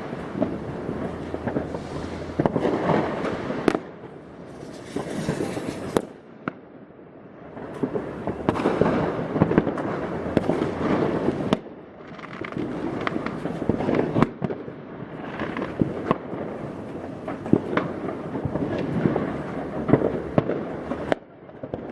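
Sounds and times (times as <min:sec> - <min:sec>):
fireworks and firecrackers crackling: 0:00.0 - 0:21.9.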